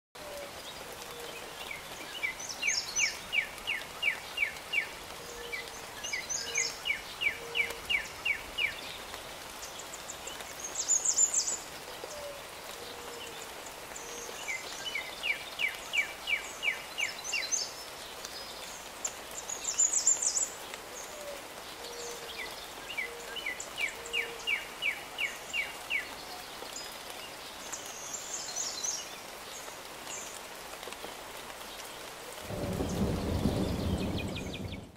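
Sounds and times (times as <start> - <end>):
light rain hiss: 0.2 - 34.9
songbird singing: 0.2 - 34.9.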